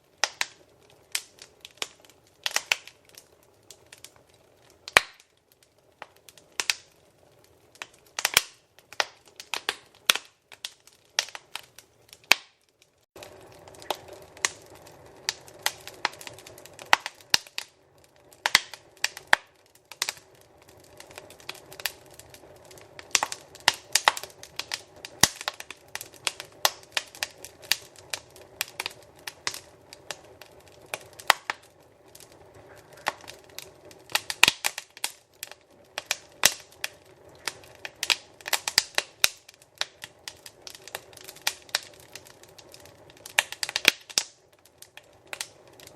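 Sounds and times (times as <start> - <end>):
hiss of burning: 0.0 - 45.9
wood fire crackling and popping: 0.0 - 45.9.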